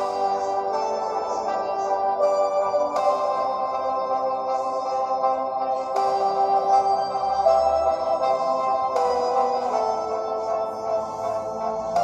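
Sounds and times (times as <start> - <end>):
soft ambient instrumental music: 0.0 - 12.0.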